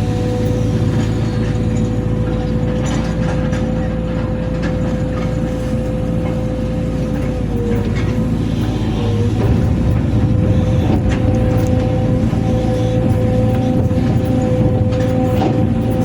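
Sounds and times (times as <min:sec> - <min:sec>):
diesel engine running: 0:00.0 - 0:16.0
high hydraulic whine: 0:00.0 - 0:16.0
machine knocks and clanks: 0:00.0 - 0:16.0.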